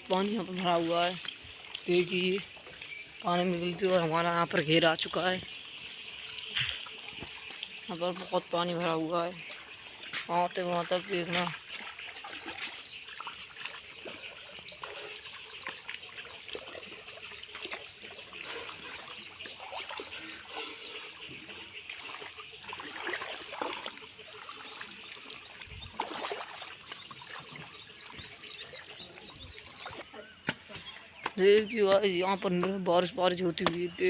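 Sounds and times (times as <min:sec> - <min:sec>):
water trickling and splashing: 0:00.0 - 0:34.0.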